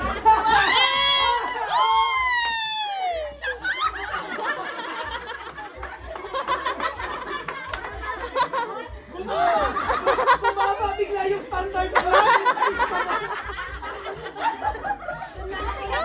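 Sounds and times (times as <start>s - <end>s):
people chattering and laughing: 0.0s - 16.0s.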